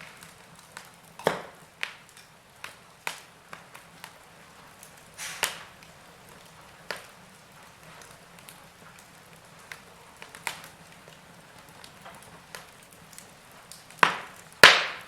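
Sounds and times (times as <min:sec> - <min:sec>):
logs popping: 0:00.0 - 0:15.0
soft fire hiss: 0:00.0 - 0:15.0
wood fire crackling: 0:00.0 - 0:15.0.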